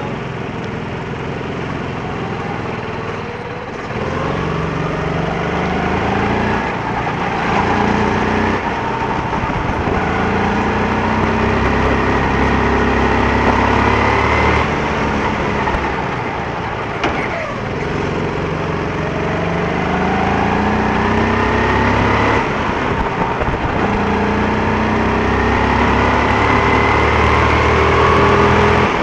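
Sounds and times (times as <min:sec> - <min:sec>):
go-kart engines revving: 0:00.0 - 0:29.0.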